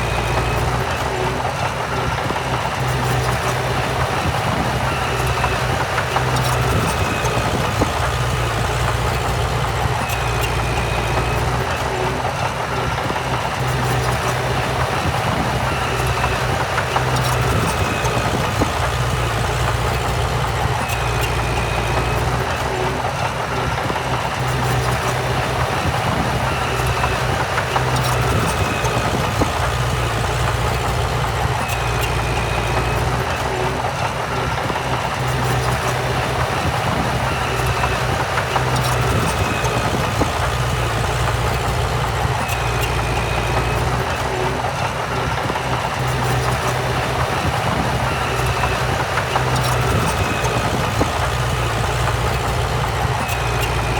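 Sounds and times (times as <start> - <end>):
heavy machinery diesel engine drone: 0.0 - 53.9.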